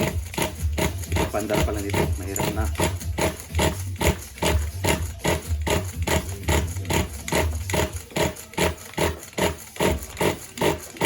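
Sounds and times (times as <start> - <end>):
recoil starter pulls: 0.0 - 11.0.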